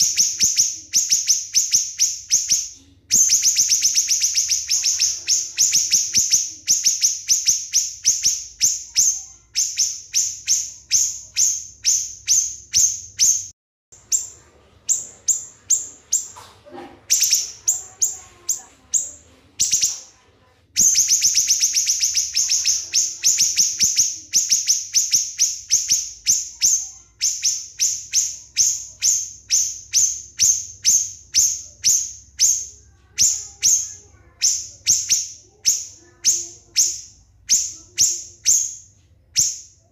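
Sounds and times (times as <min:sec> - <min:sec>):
songbird singing high falling notes: 0:00.0 - 0:16.3, 0:17.1 - 0:20.1, 0:20.8 - 0:39.9.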